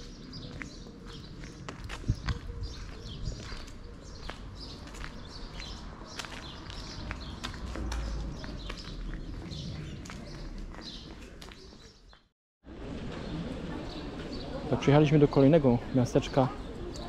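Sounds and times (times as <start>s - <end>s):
small birds chirping: 0.0s - 12.3s, 13.8s - 17.0s
footsteps on street: 0.0s - 17.0s.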